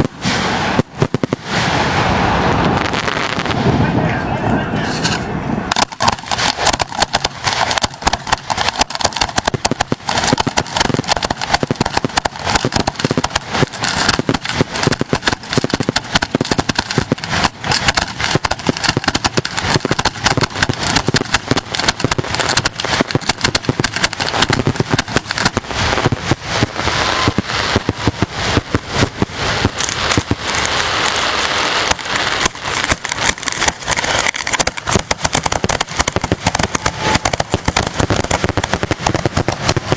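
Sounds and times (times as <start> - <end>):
fireworks crackling: 0.0 - 39.9
fireworks launches and bursts: 0.0 - 39.9.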